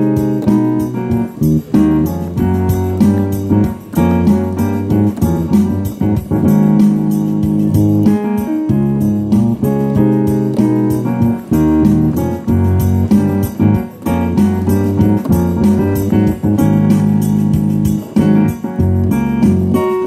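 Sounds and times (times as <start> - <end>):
digital piano playing: 0.0 - 20.0.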